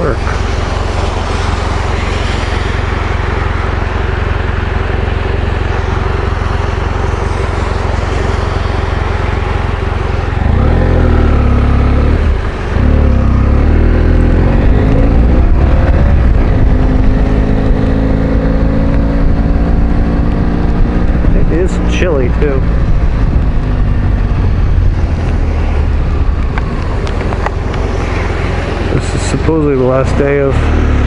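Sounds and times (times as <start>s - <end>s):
motorcycle engine revving: 0.0s - 31.0s
wind and road noise: 0.0s - 31.0s.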